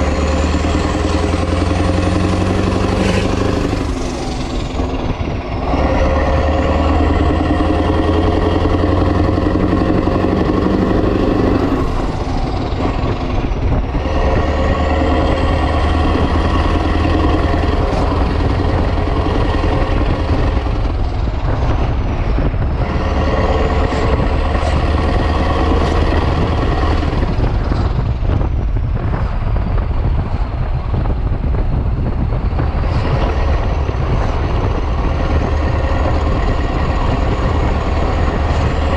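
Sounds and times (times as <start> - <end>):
diesel truck engine pulling hard: 0.0 - 38.9.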